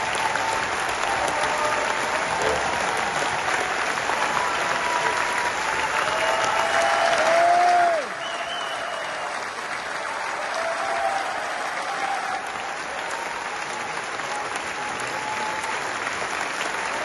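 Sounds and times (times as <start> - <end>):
audience clapping: 0.0 - 17.0
crowd cheering: 0.0 - 17.0.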